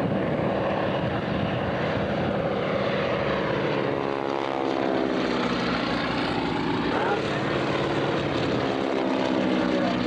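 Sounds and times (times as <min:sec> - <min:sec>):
biplane engine flying past: 0:00.0 - 0:10.0.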